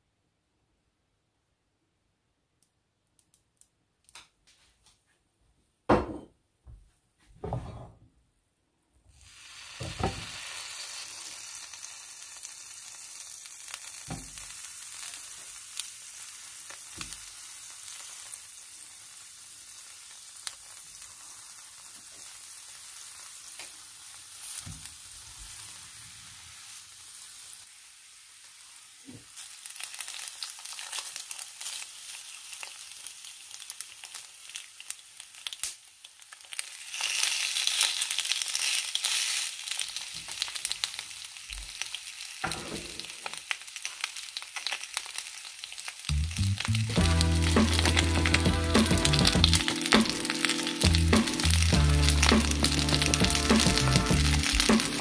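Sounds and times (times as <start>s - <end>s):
food sizzling in hot oil: 9.1s - 55.0s.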